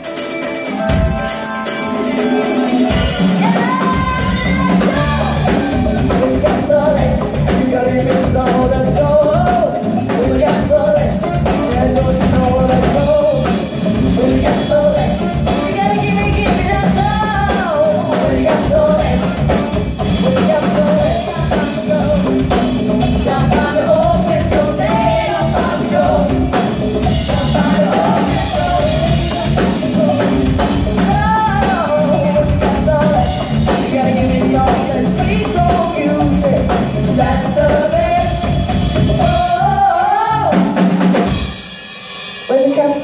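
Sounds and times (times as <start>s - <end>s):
woman singing lead: 0.0s - 41.4s, 42.4s - 43.0s
bass guitar: 0.0s - 41.7s
keyboards: 0.0s - 41.7s
congas: 0.0s - 43.0s
drum kit: 0.0s - 43.0s.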